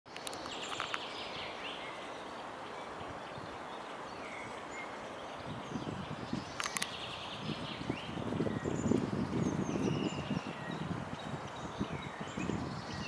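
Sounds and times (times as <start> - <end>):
outdoor background hiss: 0.1 - 13.0
songbirds chirping: 0.1 - 13.0.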